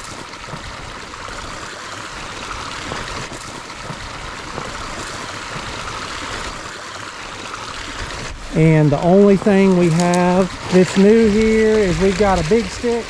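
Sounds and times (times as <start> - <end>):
creek water running through sticks: 0.0 - 13.0.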